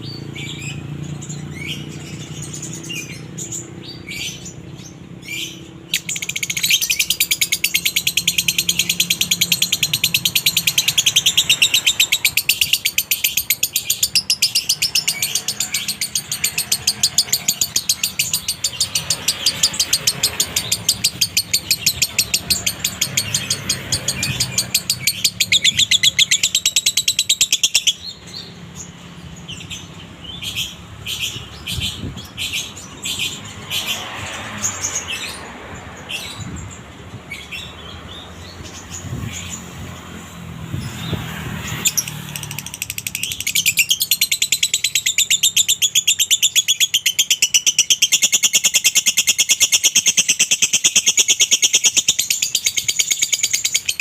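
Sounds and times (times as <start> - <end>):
lovebird chirping: 0.0 - 35.5, 40.7 - 54.0.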